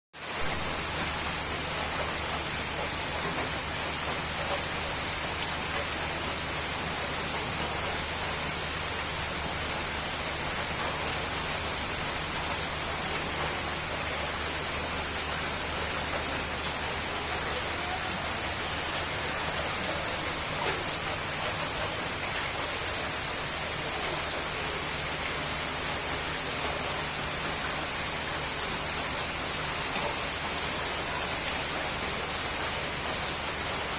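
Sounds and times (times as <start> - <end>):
steady rain: 0.1 - 33.9.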